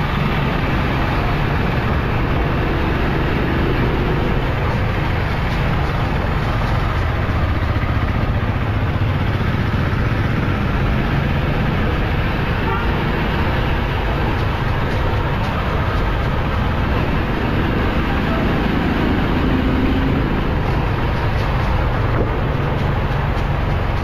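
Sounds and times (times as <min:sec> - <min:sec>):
vehicle driving rumble: 0:00.0 - 0:24.0.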